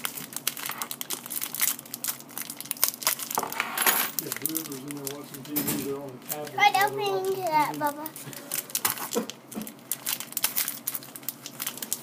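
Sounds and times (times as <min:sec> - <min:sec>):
plastic wrapper crinkling and tearing: 0:00.0 - 0:03.6, 0:04.2 - 0:12.0.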